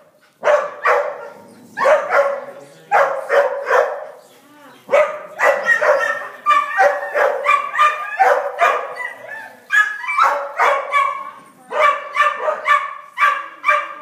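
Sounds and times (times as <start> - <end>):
dog barking: 0.4 - 4.2, 4.9 - 14.0.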